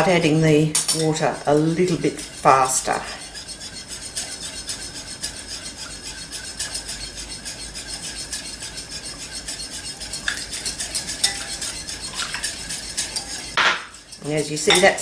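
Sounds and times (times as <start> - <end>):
whisk beating in ceramic bowl: 0.0 - 15.0.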